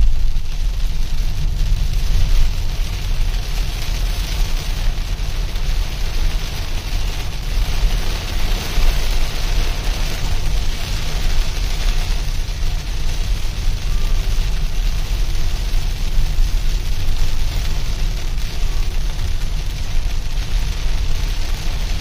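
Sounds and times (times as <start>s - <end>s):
heavy rain on a car: 0.0s - 22.0s
road and engine rumble: 0.0s - 22.0s.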